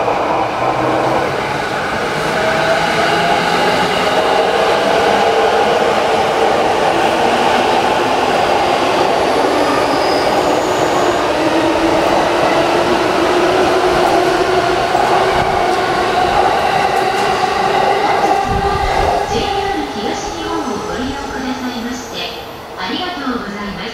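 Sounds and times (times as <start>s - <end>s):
train hum: 0.0s - 23.9s
train wheels rushing on rail: 0.0s - 23.9s.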